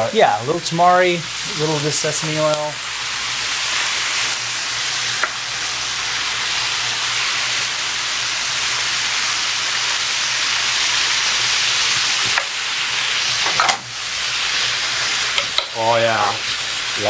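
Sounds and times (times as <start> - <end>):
vegetables sizzling in skillet: 0.0 - 17.0.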